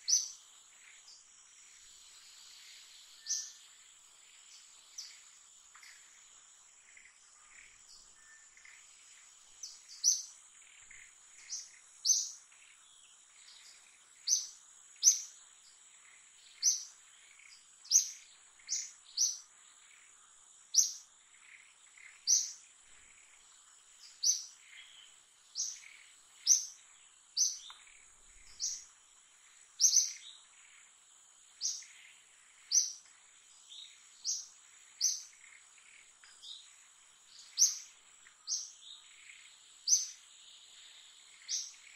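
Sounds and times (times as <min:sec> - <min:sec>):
bird chirping: 0:00.0 - 0:06.2, 0:06.8 - 0:41.9.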